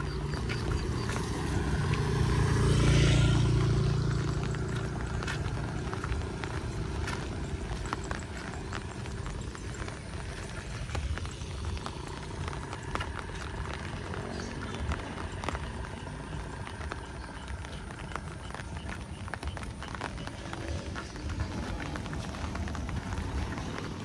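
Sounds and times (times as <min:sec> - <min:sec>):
rain falling steadily: 0:00.0 - 0:24.0
wind rumbling on the microphone: 0:00.0 - 0:24.0.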